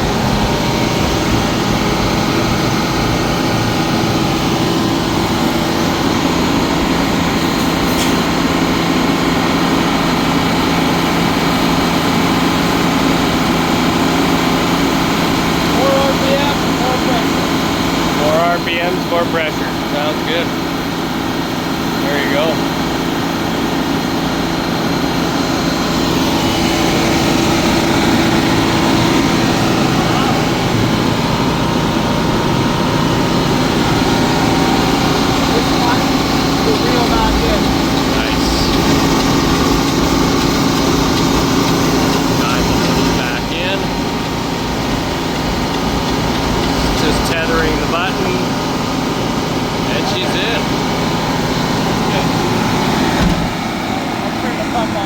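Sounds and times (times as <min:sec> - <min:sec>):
fire truck engine running: 0:00.0 - 0:55.0.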